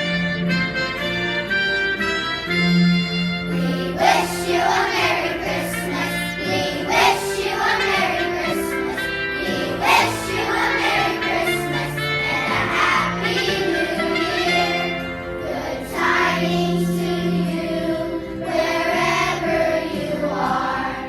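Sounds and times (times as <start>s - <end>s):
instrumental accompaniment: 0.0s - 21.0s
young choir singing: 3.5s - 21.0s.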